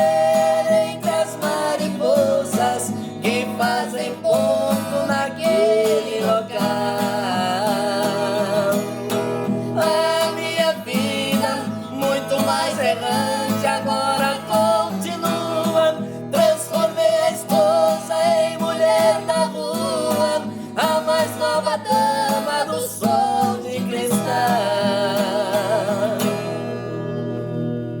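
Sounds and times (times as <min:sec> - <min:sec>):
person singing: 0:00.0 - 0:27.6
acoustic guitar: 0:00.0 - 0:28.0.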